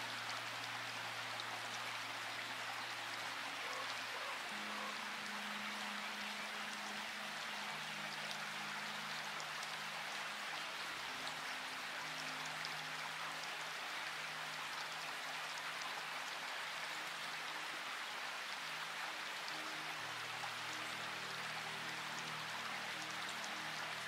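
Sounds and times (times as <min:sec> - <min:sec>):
soft background music: 0:00.0 - 0:24.0
steady rain: 0:00.0 - 0:24.0.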